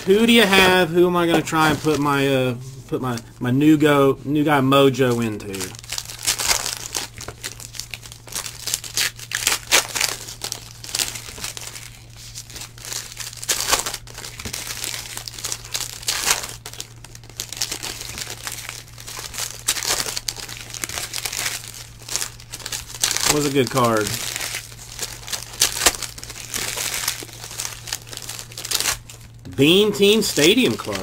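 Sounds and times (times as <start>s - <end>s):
foil wrappers crinkling: 0.0s - 3.4s, 4.9s - 31.0s
steady low hum: 0.0s - 31.0s.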